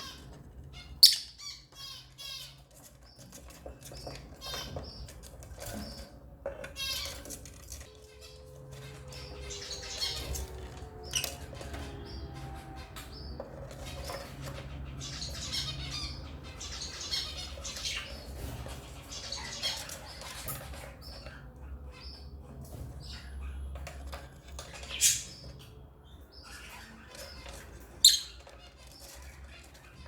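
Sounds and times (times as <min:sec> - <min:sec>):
lovebirds chirping and squawking: 0:00.0 - 0:30.0.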